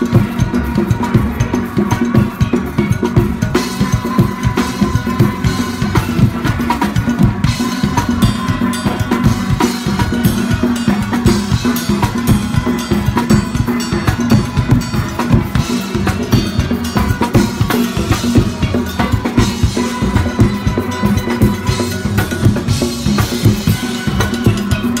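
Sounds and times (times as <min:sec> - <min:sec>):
drum kit and congas beat: 0:00.0 - 0:25.0.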